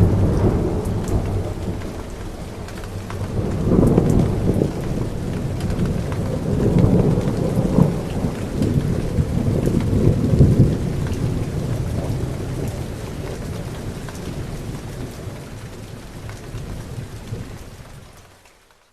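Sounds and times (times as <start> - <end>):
low thunder rumble: 0.0 - 17.8
rain falling: 0.0 - 18.9.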